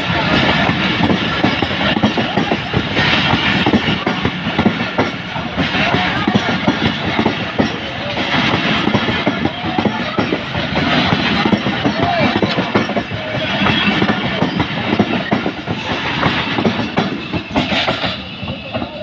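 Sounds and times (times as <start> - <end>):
train wheels clattering over rail joints: 0.0 - 19.0.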